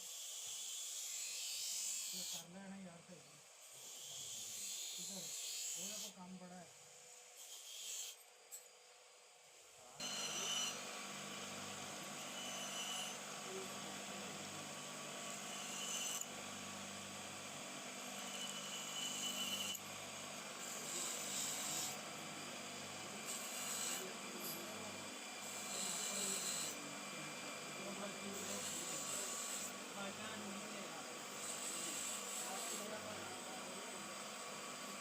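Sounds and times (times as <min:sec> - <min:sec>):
abrasive tool grinding metal: 0:00.0 - 0:02.5, 0:03.6 - 0:06.2, 0:07.4 - 0:08.7, 0:10.0 - 0:35.0.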